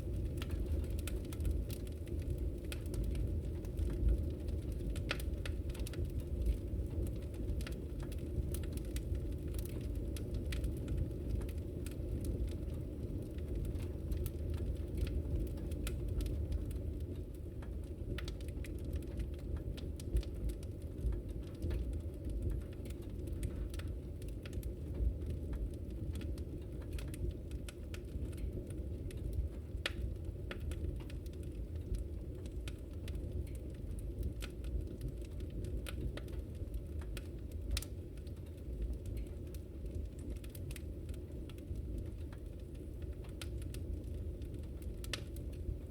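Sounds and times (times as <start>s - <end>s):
low rumble of flames: 0.0s - 45.9s
wood fire pops and snaps: 0.0s - 45.9s.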